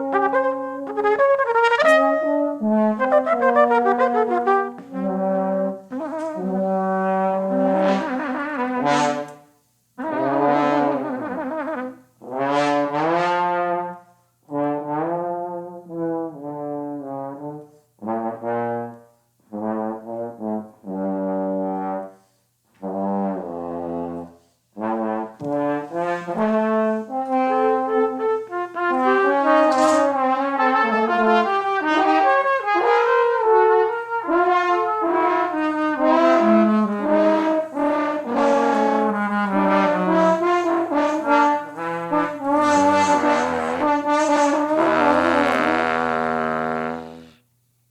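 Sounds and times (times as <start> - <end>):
trombone playing: 0.0 - 47.4
trumpet playing: 0.0 - 47.4.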